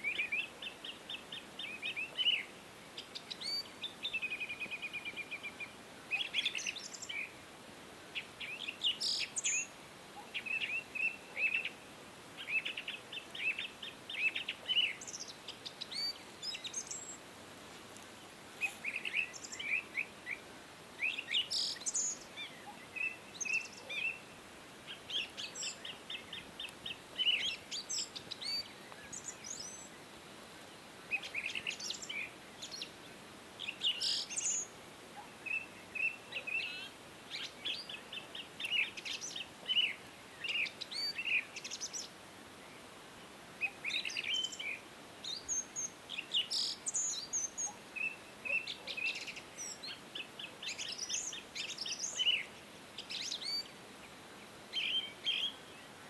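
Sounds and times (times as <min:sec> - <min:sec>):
birds chirping: 0:00.0 - 0:07.4, 0:08.1 - 0:56.0
faint steady hiss: 0:00.0 - 0:56.0.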